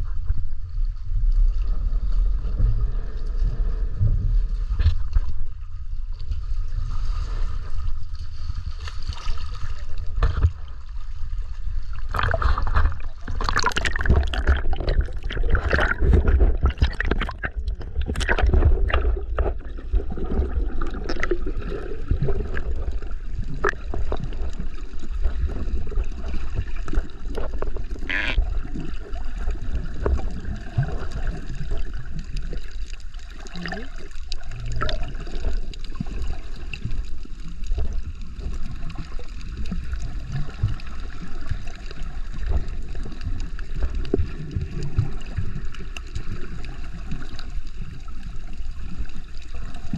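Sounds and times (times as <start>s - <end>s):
water sloshing and gurgling: 0.0s - 49.9s.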